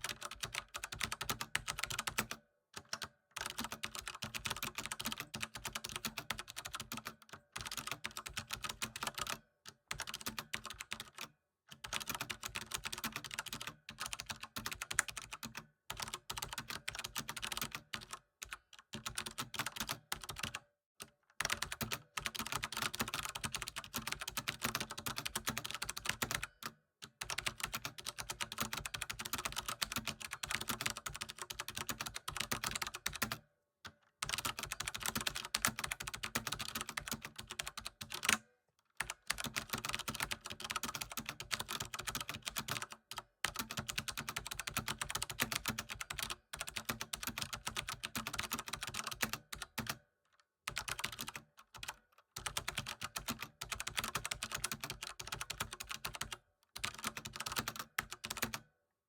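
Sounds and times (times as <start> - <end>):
typing on computer keyboard: 0.0 - 33.4, 34.2 - 58.7.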